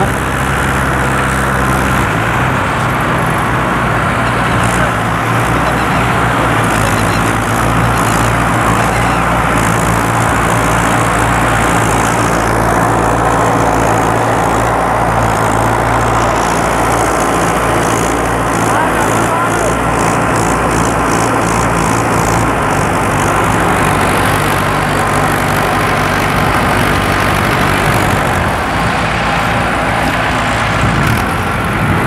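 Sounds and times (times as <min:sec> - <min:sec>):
tractor engines droning under load: 0:00.0 - 0:32.0.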